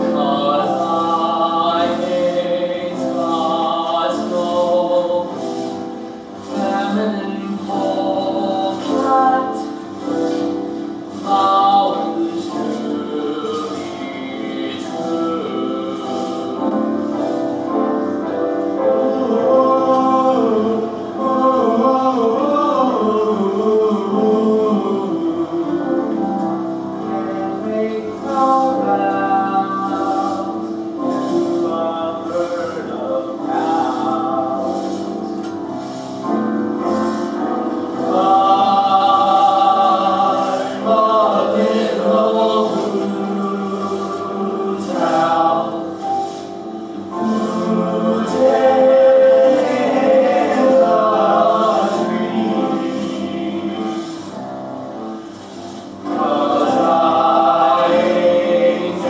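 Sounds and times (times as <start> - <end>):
men's chorus singing: 0.0 - 59.0.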